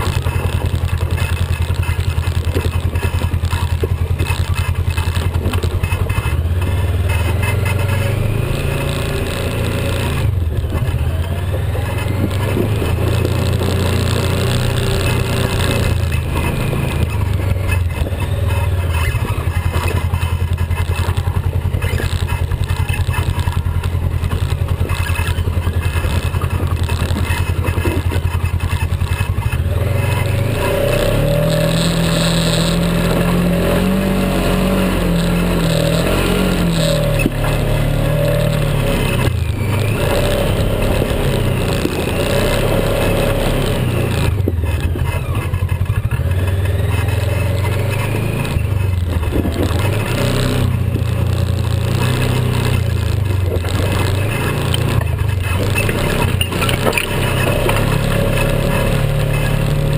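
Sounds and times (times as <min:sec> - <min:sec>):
engine revving over rough ground: 0:00.0 - 0:59.9.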